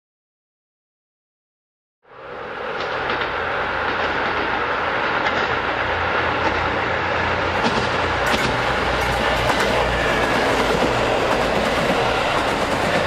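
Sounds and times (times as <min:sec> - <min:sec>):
diesel railcar engine drone: 0:02.0 - 0:13.0
wheel-on-rail noise: 0:02.1 - 0:13.0.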